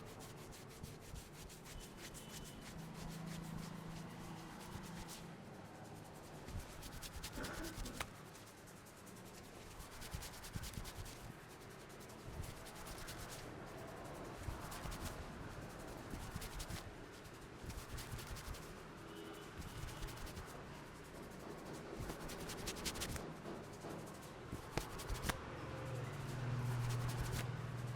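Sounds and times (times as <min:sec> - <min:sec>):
hands rubbing through hair: 0:00.0 - 0:27.9.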